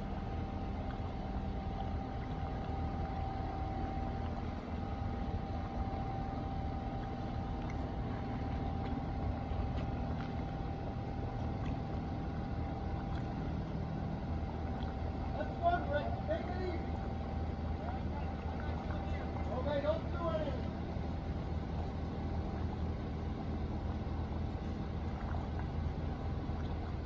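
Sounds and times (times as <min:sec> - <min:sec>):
outboard motor running: 0:00.0 - 0:27.0
thin steady whine: 0:00.0 - 0:27.0.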